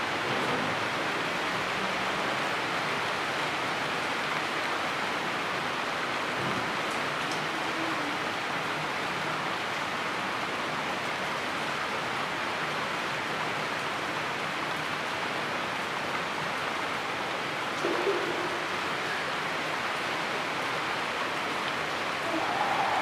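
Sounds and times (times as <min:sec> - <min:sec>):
rain falling on foliage: 0:00.0 - 0:23.0.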